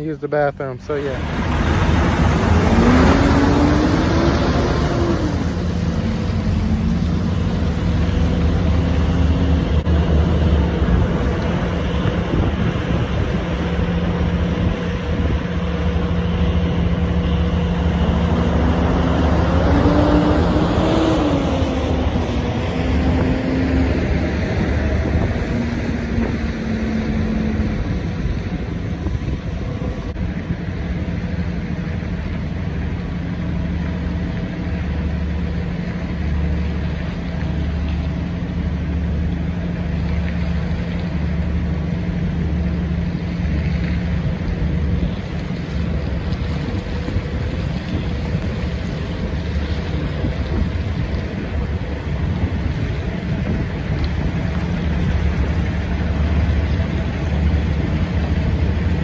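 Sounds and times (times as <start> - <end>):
diesel truck engines idling: 0.0 - 59.0
vehicle engine passing: 0.8 - 59.0.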